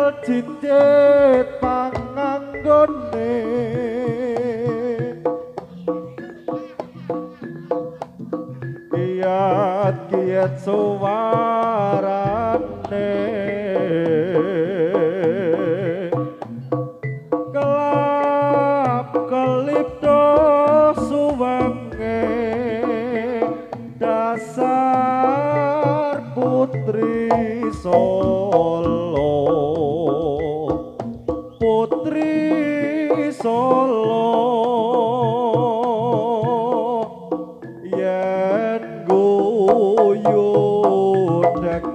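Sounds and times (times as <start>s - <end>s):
gamelan accompaniment: 0.0s - 41.9s
hand drumming: 0.0s - 41.9s
wavering melodic lead: 0.0s - 41.9s.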